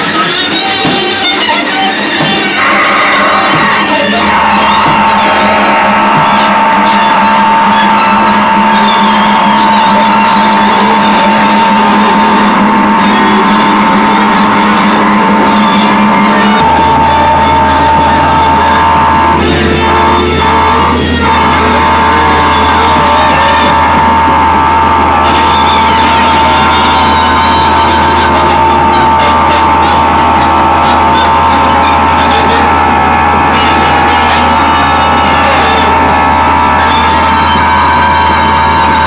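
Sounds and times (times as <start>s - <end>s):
harsh noise music: 0.0s - 39.0s
steady high tone: 0.0s - 39.0s
low hum: 2.6s - 39.0s.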